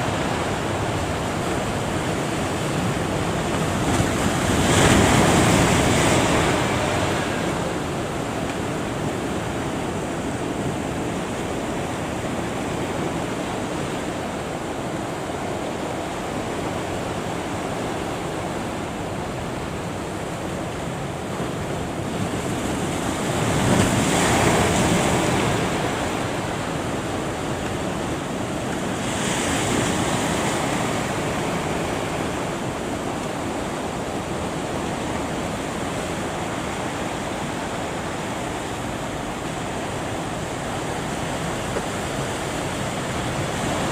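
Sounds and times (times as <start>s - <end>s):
ocean surf breaking: 0.0s - 43.9s
wave crashing: 0.0s - 43.9s.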